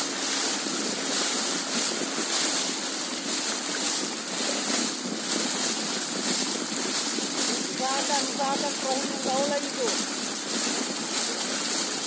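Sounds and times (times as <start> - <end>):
water noise from boat: 0.0 - 12.0
wind on microphone: 0.0 - 12.0.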